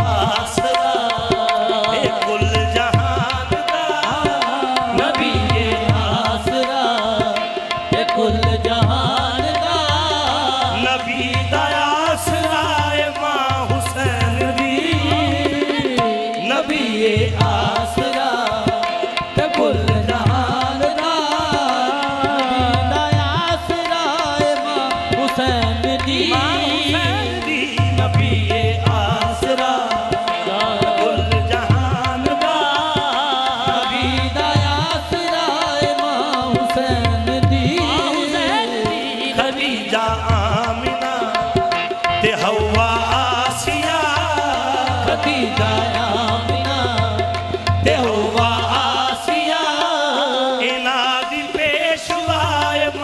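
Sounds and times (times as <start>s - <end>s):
harmonium: 0.0s - 53.0s
men singing: 0.0s - 53.0s.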